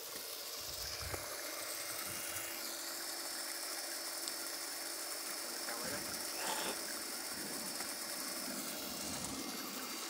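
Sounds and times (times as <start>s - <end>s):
water pouring onto ground: 0.0s - 10.0s
water pump motor whine: 0.0s - 10.0s.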